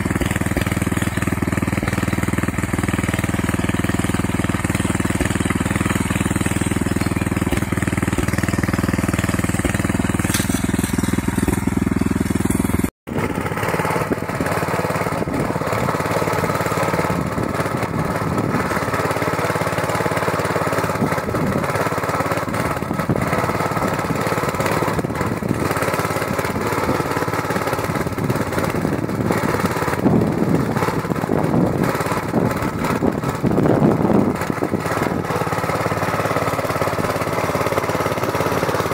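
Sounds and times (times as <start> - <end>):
rotary weeders churning soil: 0.0 - 38.9
small petrol engine running: 0.0 - 38.9.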